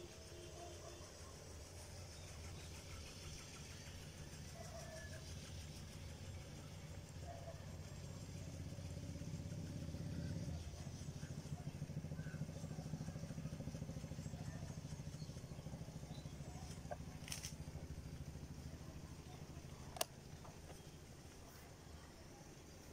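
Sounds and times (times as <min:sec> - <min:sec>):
low engine drone: 0:00.9 - 0:22.8.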